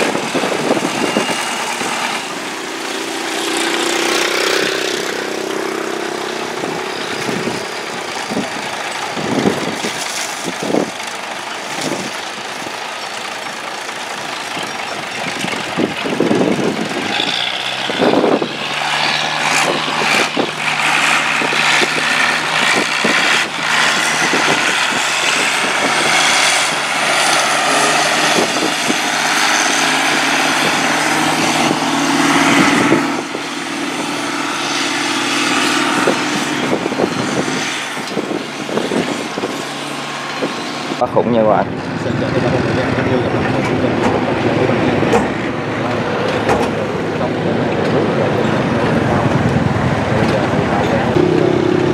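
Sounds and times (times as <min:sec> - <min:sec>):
boat engine running: 0:00.0 - 0:51.9.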